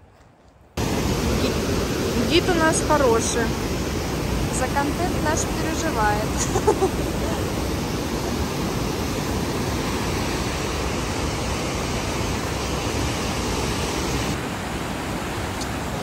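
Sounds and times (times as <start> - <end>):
river rushing over rocks: 0.8 - 16.0.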